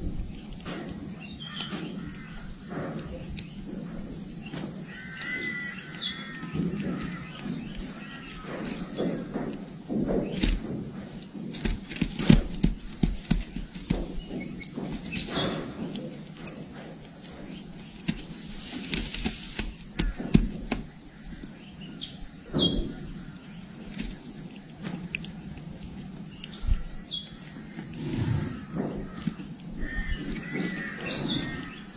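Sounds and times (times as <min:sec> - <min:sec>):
bird chirping: 0:00.1 - 0:31.9.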